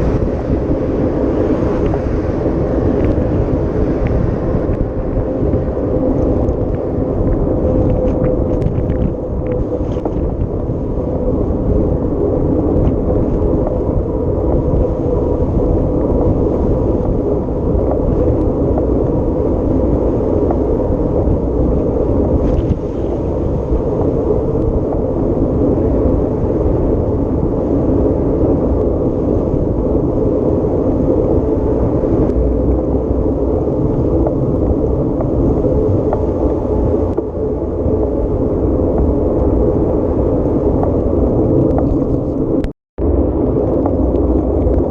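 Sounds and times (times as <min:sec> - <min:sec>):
vehicle engine rumbling: 0:00.0 - 0:44.9.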